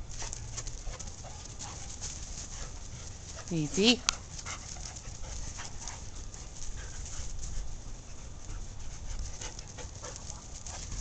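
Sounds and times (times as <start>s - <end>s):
dogs panting: 0.0s - 11.0s.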